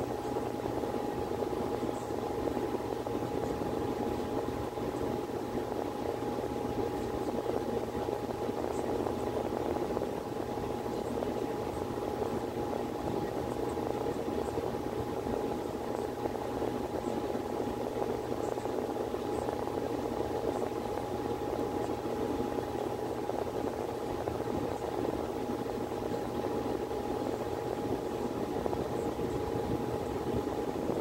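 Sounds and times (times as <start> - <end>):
constant hum: 0.0 - 31.0.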